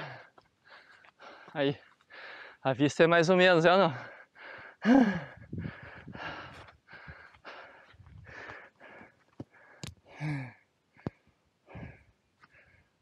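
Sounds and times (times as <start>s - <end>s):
person breathing hard: 0.0s - 2.6s, 3.9s - 13.0s.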